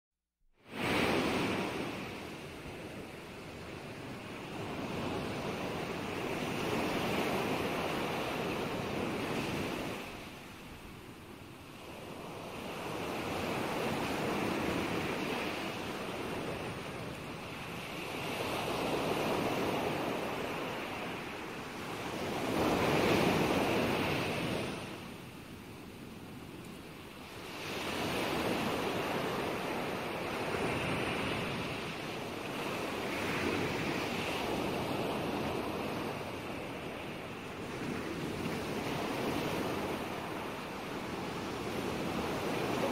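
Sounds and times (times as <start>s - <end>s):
sea waves washing in: 0.6s - 42.9s.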